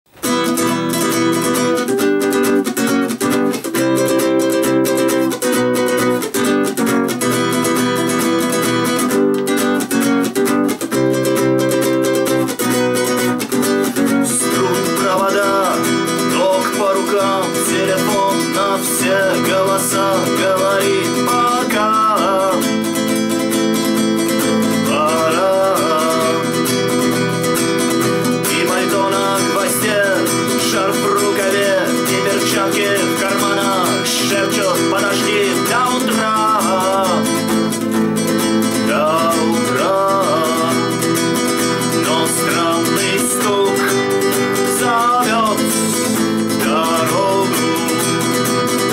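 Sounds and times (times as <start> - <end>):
acoustic guitar strumming chords: 0.1 - 48.9.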